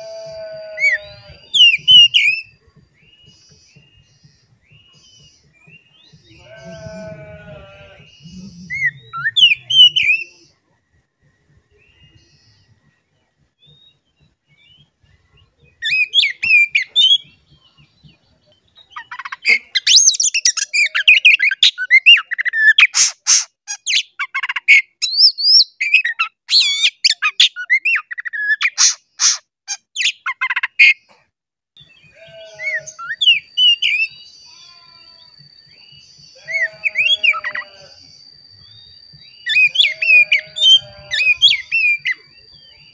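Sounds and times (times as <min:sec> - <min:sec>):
songbird whistling song: 0:00.0 - 0:10.6, 0:11.3 - 0:29.4, 0:30.0 - 0:31.0, 0:31.8 - 0:42.9.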